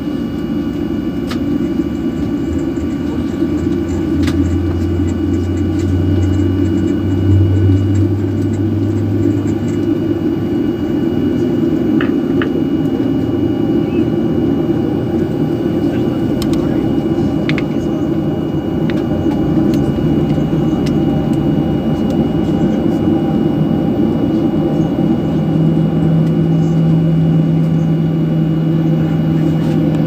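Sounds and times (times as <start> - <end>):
faint engine whine: 0.0 - 30.0
jet engines rumbling: 0.0 - 30.0.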